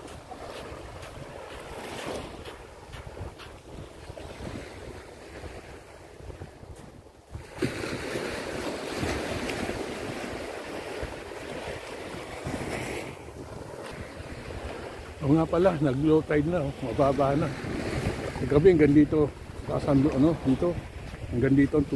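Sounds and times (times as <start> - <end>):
waves washing up sandy shore: 0.0 - 21.9
wind buffeting microphone: 0.0 - 21.9.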